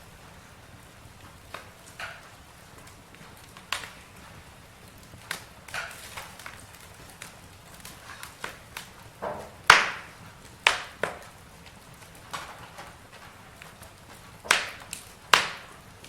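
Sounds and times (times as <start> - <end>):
burning wood popping: 0.0 - 16.0
campfire crackling: 0.0 - 16.0
low steady fire hiss: 0.0 - 16.0.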